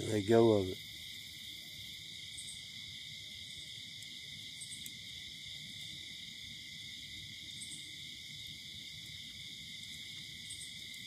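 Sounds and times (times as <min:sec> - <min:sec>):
crickets and insects droning: 0:00.0 - 0:11.0.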